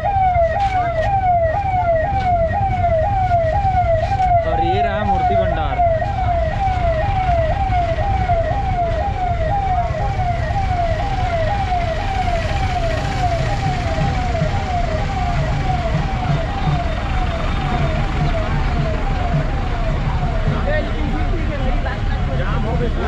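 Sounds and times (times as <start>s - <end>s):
ambulance siren wailing: 0.0s - 23.0s
idling vehicle engines rumble: 0.0s - 23.0s.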